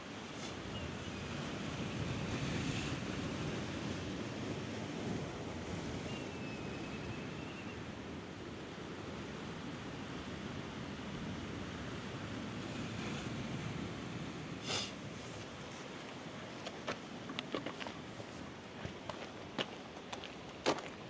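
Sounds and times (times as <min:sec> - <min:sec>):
sea surf rushing: 0:00.0 - 0:18.8.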